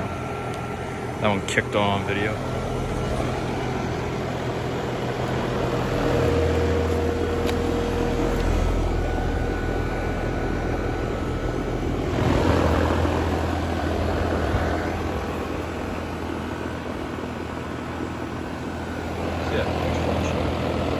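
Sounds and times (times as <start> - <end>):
compressor low hum: 0.0 - 20.9
condenser fan whooshing: 0.0 - 20.9.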